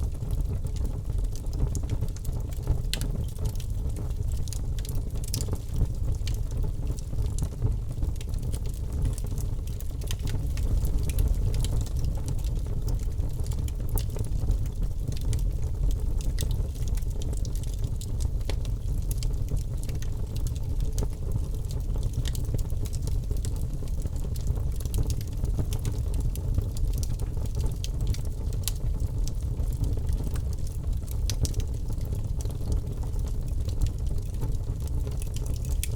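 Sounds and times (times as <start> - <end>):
campfire crackling and popping: 0.1 - 35.9.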